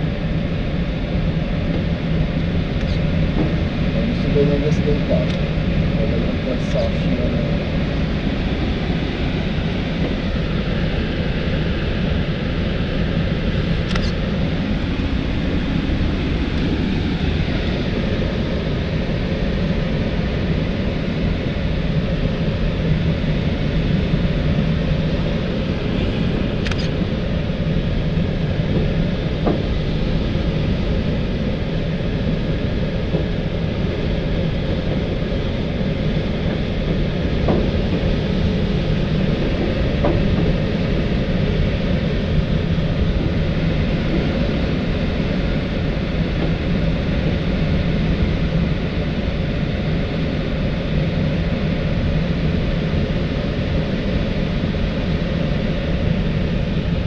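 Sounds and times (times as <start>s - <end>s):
airflow rushing in glider cockpit: 0.0s - 57.0s.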